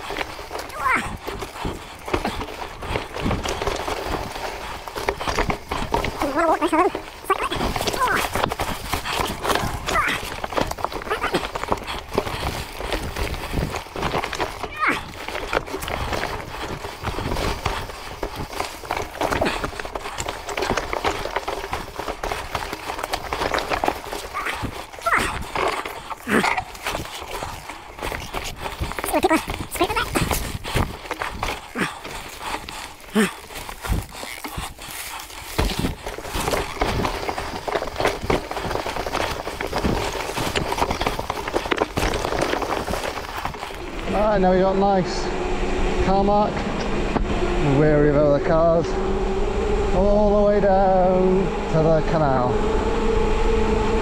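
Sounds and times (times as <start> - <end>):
bike rattling over rough track: 0.0 - 54.0.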